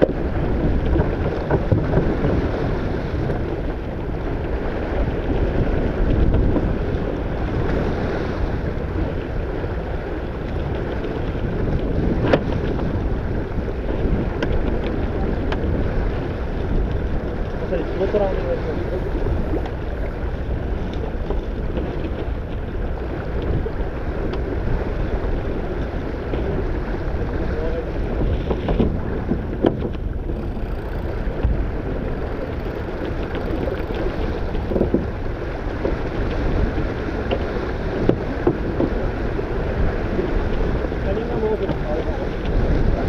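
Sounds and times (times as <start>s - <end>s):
water rushing along hull: 0.0s - 43.0s
wind buffeting microphone: 0.0s - 43.0s.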